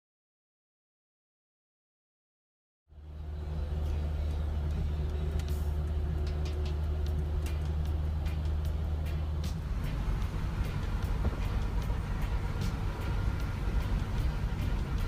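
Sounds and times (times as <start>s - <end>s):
car engine droning: 2.9s - 15.0s.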